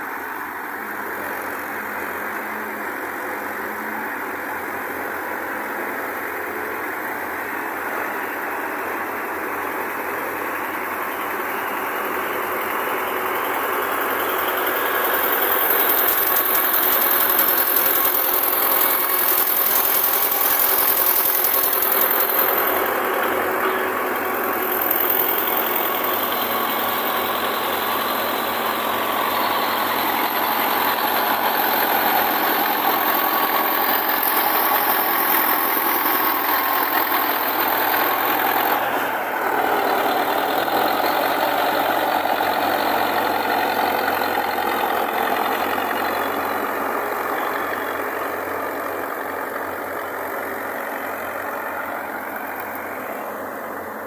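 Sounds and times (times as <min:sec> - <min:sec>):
farm machinery engine running: 0:00.0 - 0:54.0.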